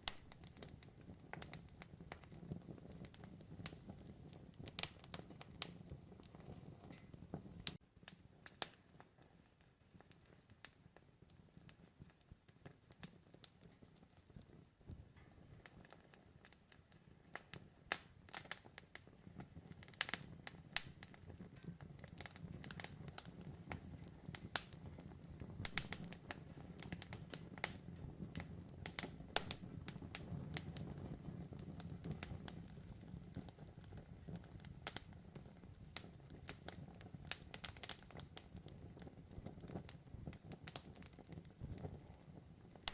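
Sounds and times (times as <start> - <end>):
campfire pops and snaps: 0.0 - 42.9
low rumble of burning flames: 0.0 - 42.9.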